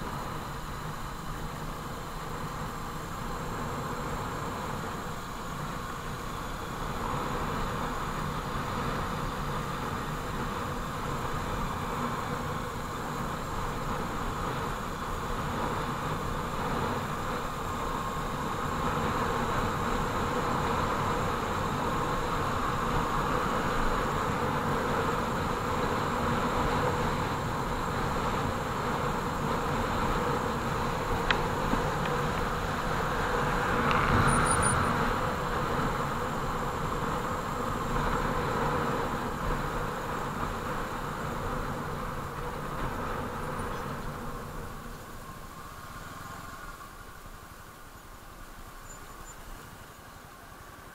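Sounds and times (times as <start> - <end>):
motorcycle engine buzzing: 0.0 - 46.5.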